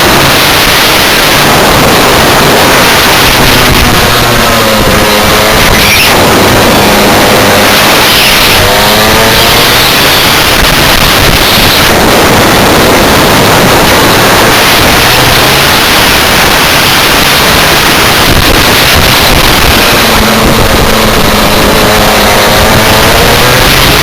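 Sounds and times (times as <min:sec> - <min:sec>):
kart engine running: 0:00.0 - 0:24.0
wind noise on microphone: 0:00.0 - 0:24.0.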